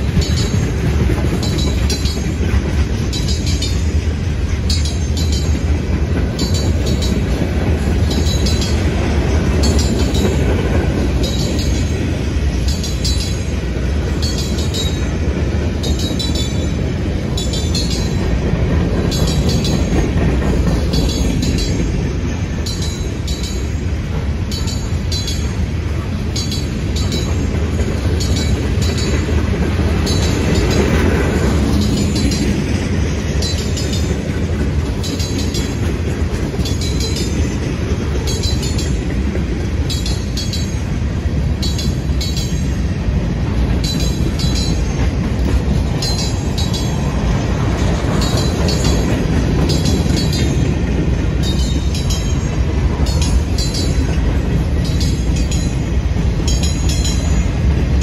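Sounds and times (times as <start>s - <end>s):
freight train wheels rumbling: 0.0s - 58.0s
wheels clacking over rail joints: 0.0s - 58.0s.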